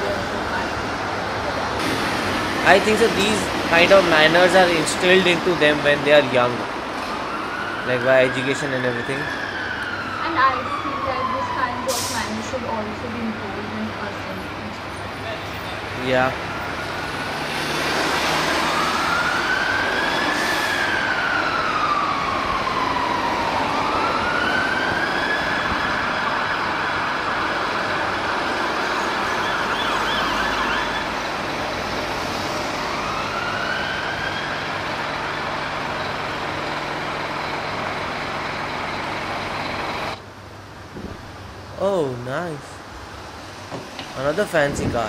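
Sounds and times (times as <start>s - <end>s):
emergency vehicle siren wailing: 0.0s - 14.5s, 15.3s - 40.2s
traffic noise: 0.0s - 45.0s.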